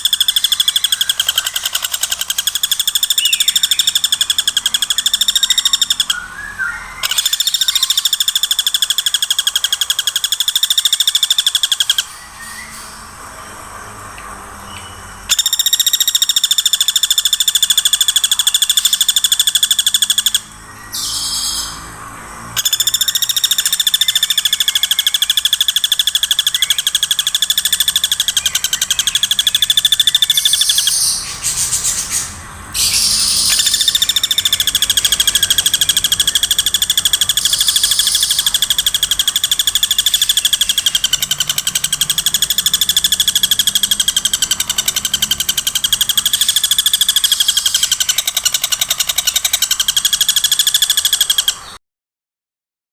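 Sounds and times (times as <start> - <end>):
woodpecker rapid high trills: 0.0 - 14.0, 14.6 - 51.8.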